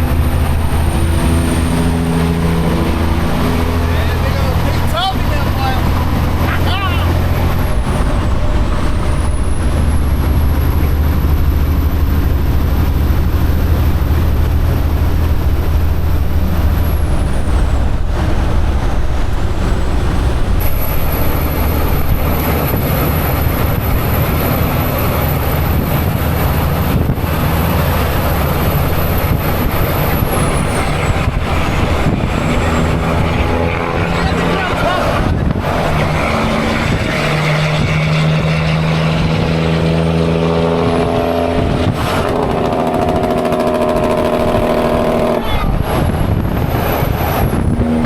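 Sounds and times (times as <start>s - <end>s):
road noise: 0.0s - 48.0s
truck engine drone: 0.0s - 48.0s.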